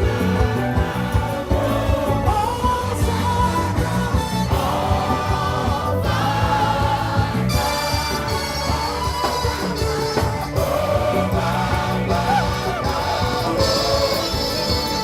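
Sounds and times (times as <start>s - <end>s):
upbeat praise music with singing: 0.0s - 15.0s.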